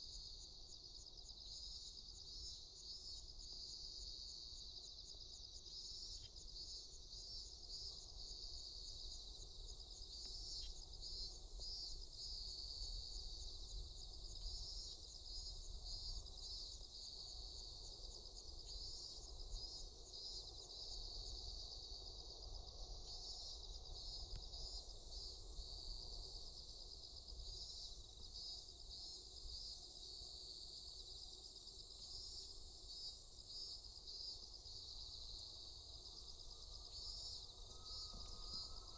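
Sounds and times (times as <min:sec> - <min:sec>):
high insect chirp: 0:00.0 - 0:38.9
insects trilling: 0:00.0 - 0:38.9.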